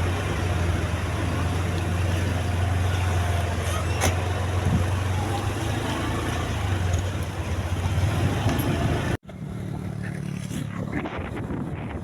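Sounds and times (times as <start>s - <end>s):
higher engine hum: 0.0s - 11.7s
vehicle engine running: 0.0s - 12.0s.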